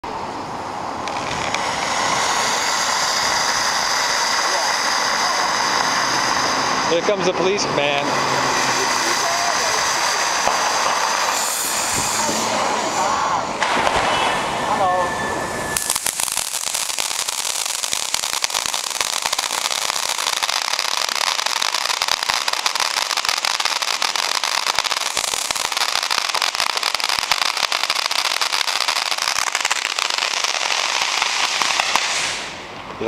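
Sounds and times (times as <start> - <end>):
firework hissing and crackling: 0.0 - 33.0.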